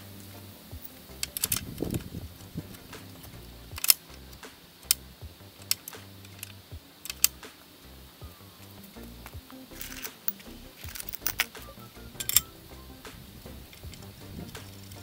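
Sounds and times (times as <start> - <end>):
small objects clicking and knocking: 0.8 - 7.9, 8.6 - 12.5, 13.1 - 15.0.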